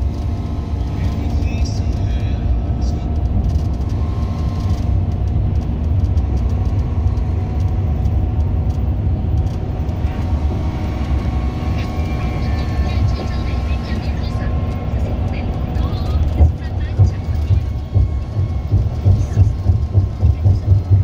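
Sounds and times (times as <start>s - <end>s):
vehicle road and engine rumble: 0.0s - 21.0s.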